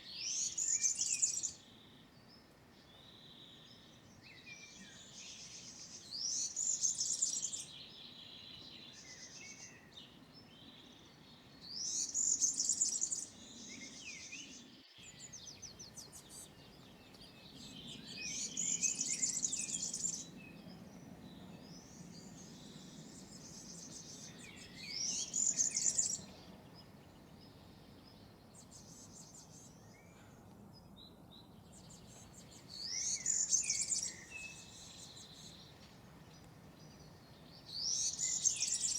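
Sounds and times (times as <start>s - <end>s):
bird singing rapid song: 0.0s - 38.9s
faint bird chirps: 0.0s - 38.9s.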